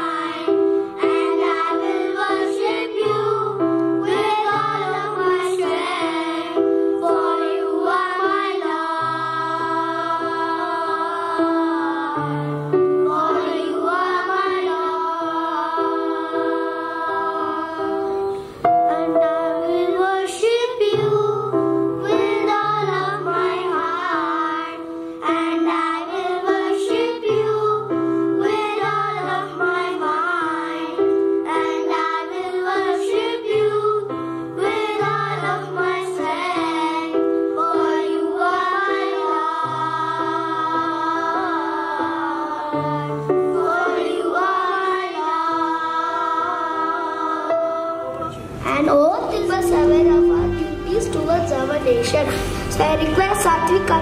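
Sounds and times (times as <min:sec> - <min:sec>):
instrumental accompaniment: 0:00.0 - 0:33.4, 0:34.2 - 0:54.0
children's choir singing: 0:00.0 - 0:54.0.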